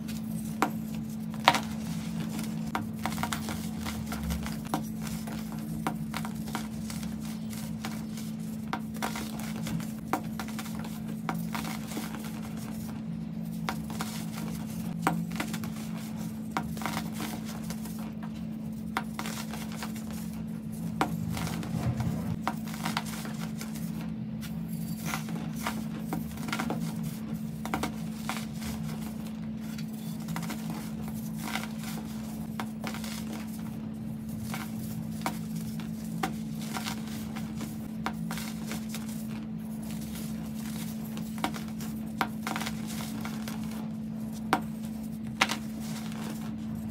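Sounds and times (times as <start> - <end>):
hands crunching baking soda: 0.0 - 46.9
steady low hum: 0.0 - 46.9.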